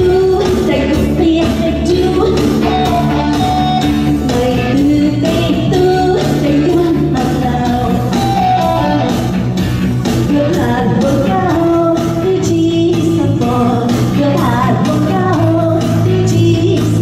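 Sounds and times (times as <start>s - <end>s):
song with singer over beat: 0.0s - 17.0s.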